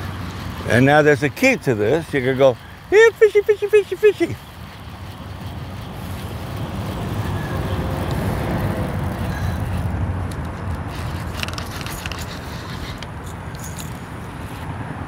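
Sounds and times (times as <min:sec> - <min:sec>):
fishing reel clicking: 0:00.0 - 0:14.0.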